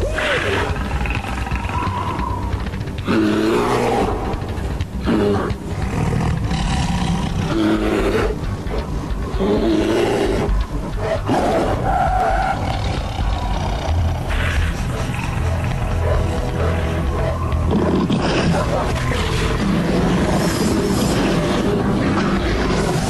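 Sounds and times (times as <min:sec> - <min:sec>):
tiger and bear roaring and snarling: 0:00.0 - 0:23.0.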